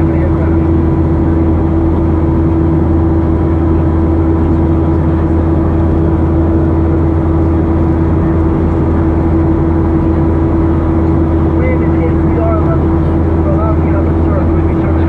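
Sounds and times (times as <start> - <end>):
constant hum: 0.0 - 15.0
jet engine drone in cabin: 0.0 - 15.0.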